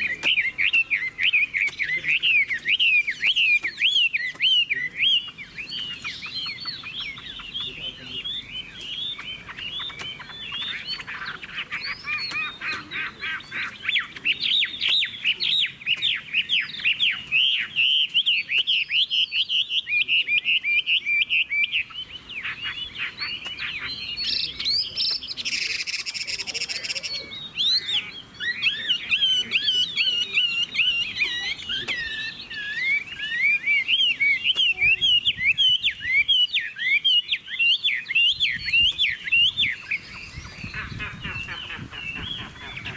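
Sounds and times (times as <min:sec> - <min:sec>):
bird singing whistled notes: 0:00.0 - 0:42.9.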